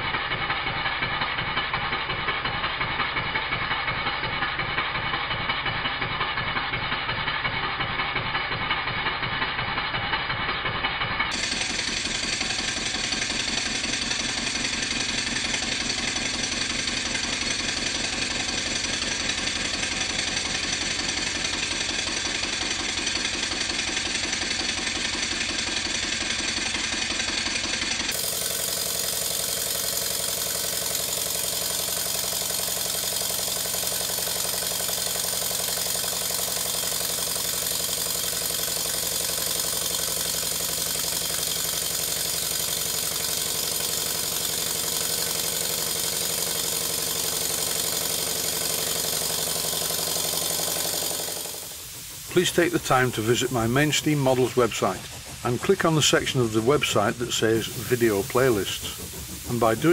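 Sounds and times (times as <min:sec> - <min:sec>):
light mechanical clatter: 0:00.0 - 0:53.5
model steam engine exhaust puffs: 0:00.0 - 0:59.9.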